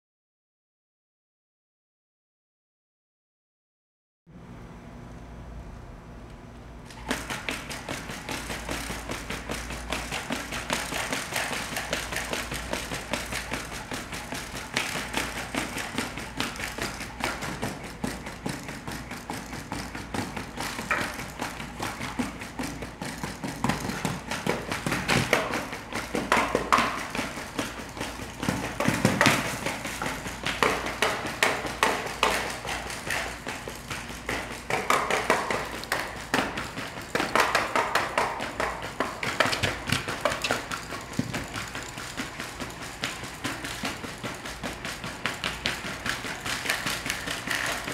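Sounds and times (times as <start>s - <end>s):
robot feet tapping: 6.9s - 47.9s.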